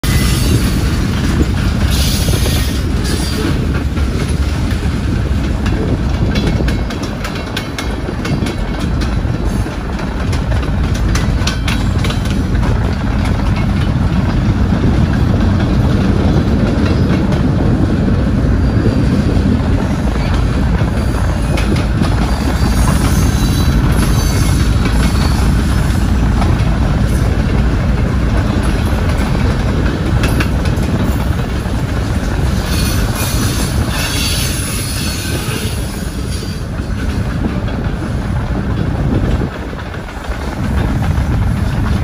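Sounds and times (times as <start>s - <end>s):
train low rumble: 0.0s - 42.0s
train wheels clacking on rail joints: 0.0s - 42.0s.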